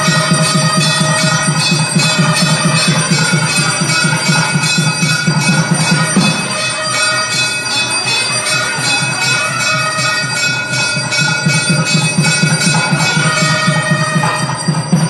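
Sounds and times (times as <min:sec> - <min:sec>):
low pulsing beat: 0:00.0 - 0:07.8, 0:09.3 - 0:15.0
temple bells ringing: 0:00.0 - 0:15.0.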